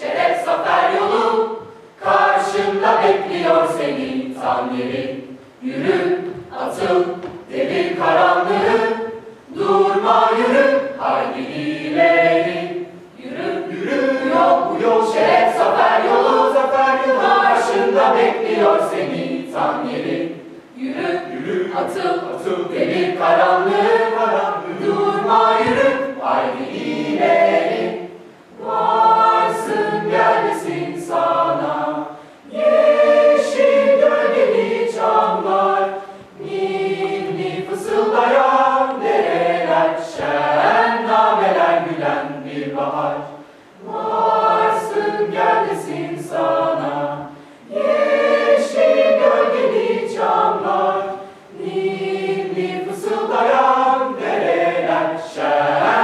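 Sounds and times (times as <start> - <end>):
choir singing in several parts: 0.0 - 56.0.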